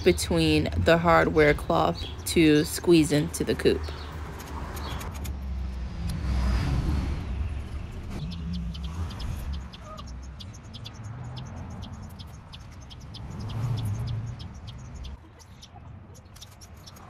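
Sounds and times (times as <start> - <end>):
passing road vehicle rumble: 0.0 - 17.0.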